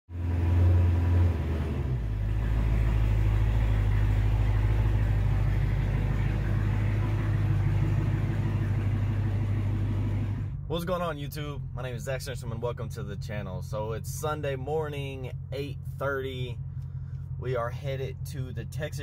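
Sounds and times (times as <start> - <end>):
car engine idling: 0.1 - 19.0.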